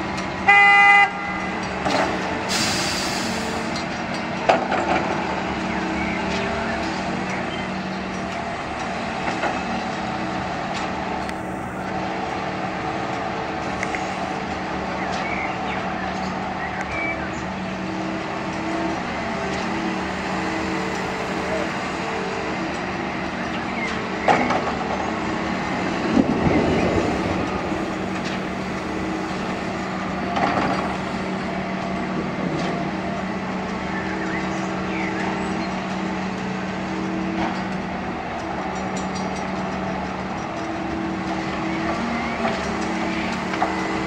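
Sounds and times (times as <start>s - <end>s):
diesel engines running under load: 0.0s - 44.0s.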